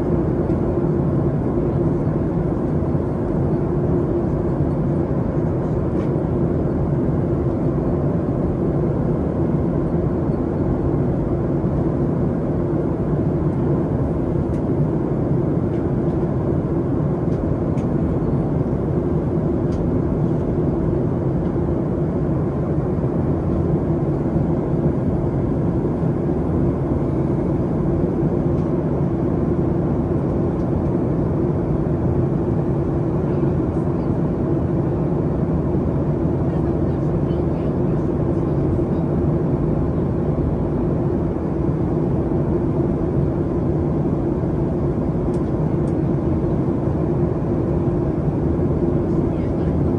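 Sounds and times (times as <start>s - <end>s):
airplane cabin air rush: 0.0s - 49.9s
low engine hum: 0.0s - 49.9s.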